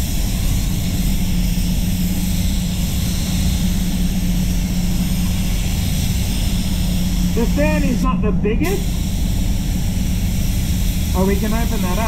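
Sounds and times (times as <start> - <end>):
paint booth airflow hum: 0.0 - 12.0
spray gun hissing: 0.0 - 12.0.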